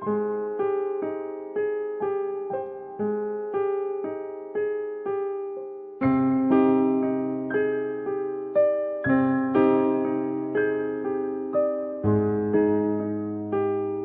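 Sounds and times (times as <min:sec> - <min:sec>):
soft electric piano music: 0:00.0 - 0:14.0.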